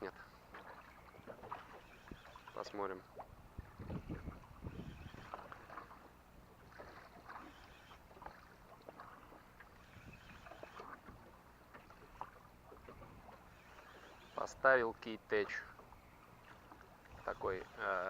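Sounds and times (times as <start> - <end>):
water splashes: 0.0 - 18.0
waves lapping against boat hull: 0.0 - 18.0.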